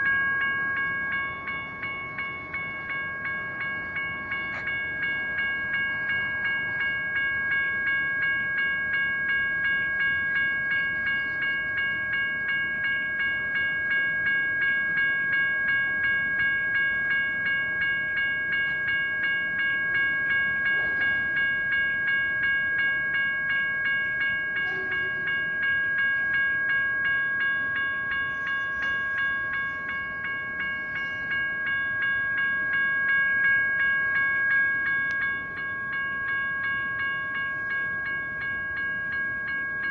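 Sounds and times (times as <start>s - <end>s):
railroad crossing bells ringing: 0.0s - 39.9s.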